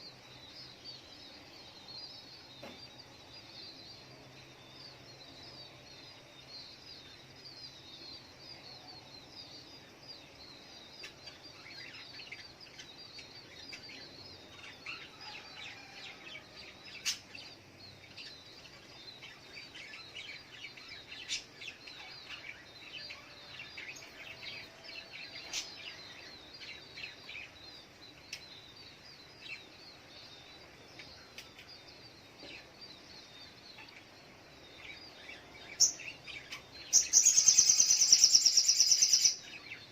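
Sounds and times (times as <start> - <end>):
bird high chirps: 0.0 - 39.9.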